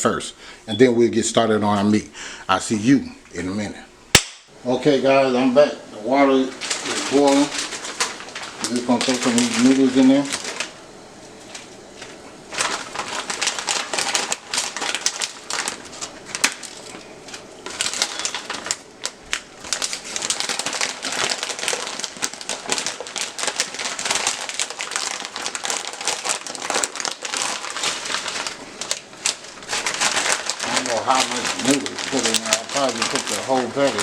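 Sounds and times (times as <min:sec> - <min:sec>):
plastic package crinkling: 0:06.5 - 0:34.0.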